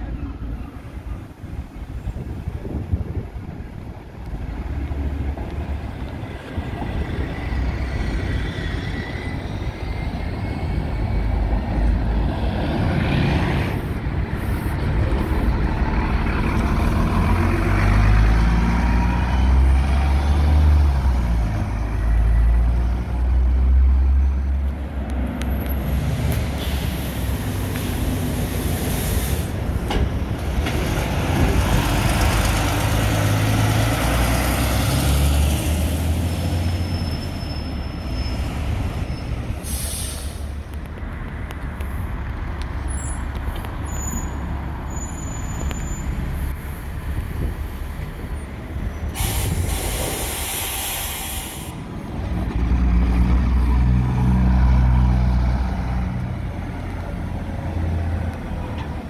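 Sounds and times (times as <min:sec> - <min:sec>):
diesel buses passing: 0:00.0 - 0:59.0.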